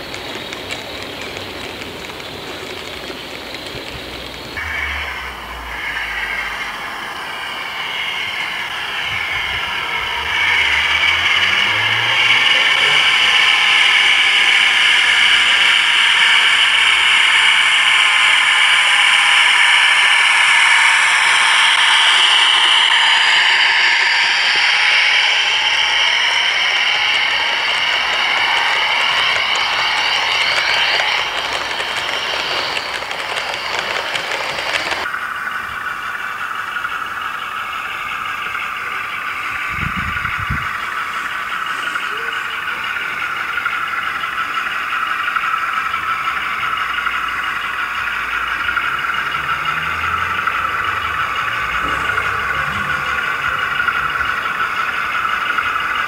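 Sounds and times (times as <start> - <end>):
model train diesel engine sound: 0.0 - 56.0
model train running on track: 0.0 - 56.0.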